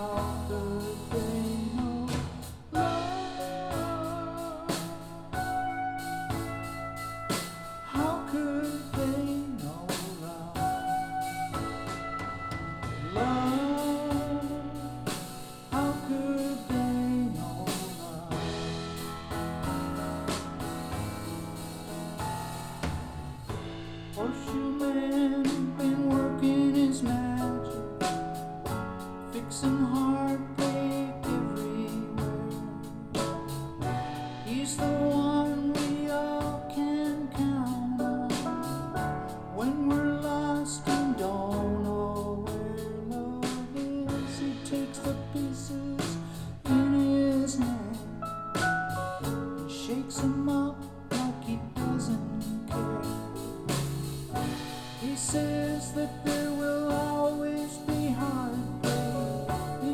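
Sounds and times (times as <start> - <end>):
recorded music with singing: 0.0 - 6.3, 7.3 - 11.9, 12.8 - 18.8, 24.1 - 28.3, 29.2 - 59.9.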